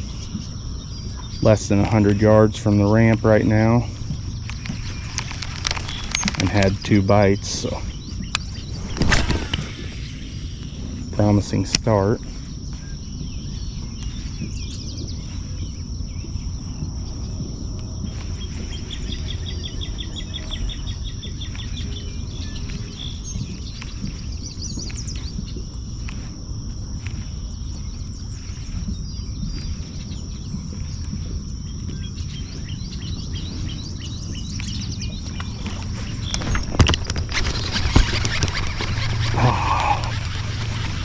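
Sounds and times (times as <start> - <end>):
high insect buzz: 0.0 - 17.4, 18.0 - 41.0
bird chirps: 0.0 - 41.0
low rumbling noise: 0.0 - 41.0.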